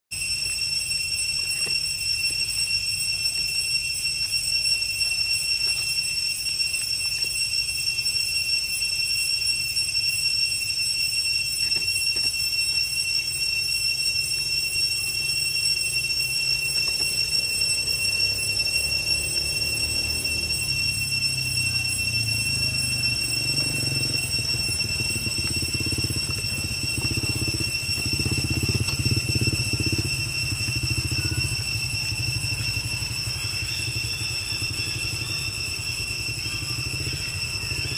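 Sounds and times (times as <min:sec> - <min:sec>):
cicadas droning: 0:00.1 - 0:37.9.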